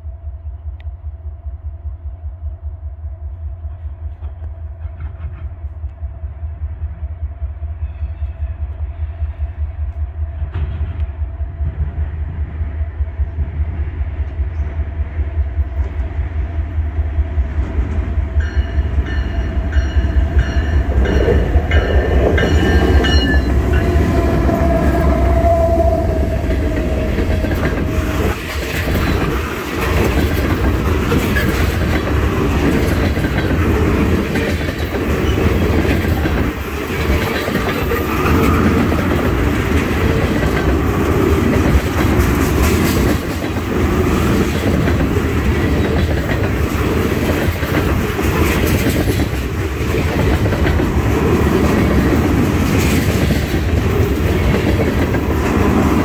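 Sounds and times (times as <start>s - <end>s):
diesel locomotive engine rumble: 0.0s - 56.0s
train wheels clacking on rails: 3.6s - 6.2s, 7.8s - 56.0s.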